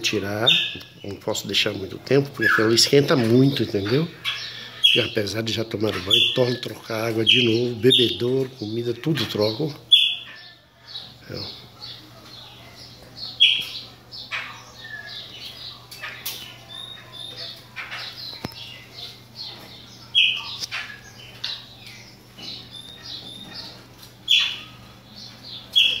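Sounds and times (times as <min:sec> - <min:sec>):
loud sharp bird notes: 0:00.0 - 0:12.0, 0:12.7 - 0:26.0
blackbirds whistling and chirping: 0:00.0 - 0:26.0.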